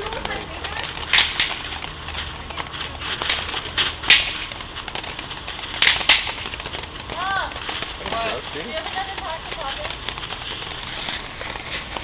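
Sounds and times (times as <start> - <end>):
firework cracks and pops: 0.0 - 12.0.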